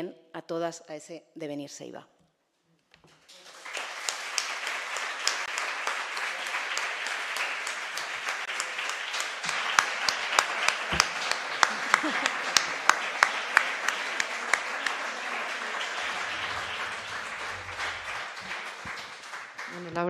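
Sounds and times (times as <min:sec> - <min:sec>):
audience applauding: 0:03.2 - 0:20.0
sharp claps close by: 0:03.3 - 0:20.0.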